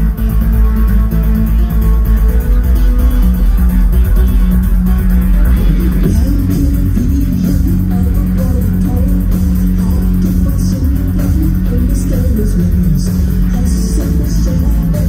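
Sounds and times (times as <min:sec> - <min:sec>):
guitar: 0:00.0 - 0:15.0
heavy pulsing bass: 0:00.0 - 0:15.0
live band music: 0:00.0 - 0:15.0.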